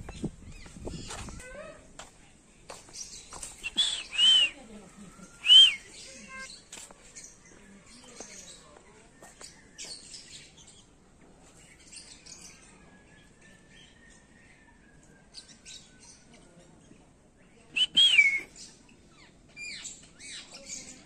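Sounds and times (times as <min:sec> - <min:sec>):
birds chirping: 0:00.0 - 0:02.1, 0:02.7 - 0:21.0.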